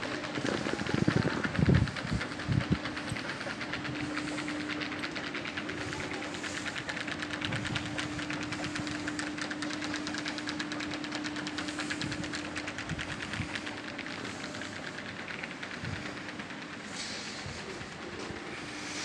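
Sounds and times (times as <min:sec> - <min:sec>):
train rattling: 0:00.0 - 0:19.0.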